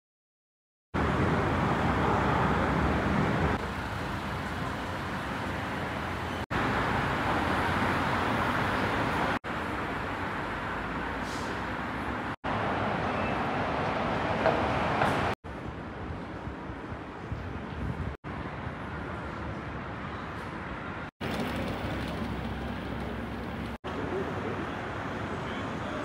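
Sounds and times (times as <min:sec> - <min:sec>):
passing vehicles rumbling: 0:01.0 - 0:26.0.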